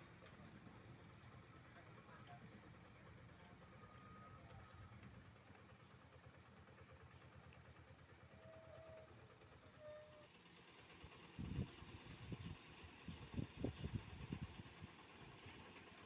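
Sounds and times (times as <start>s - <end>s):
faint heavy equipment engine: 0.0s - 16.0s.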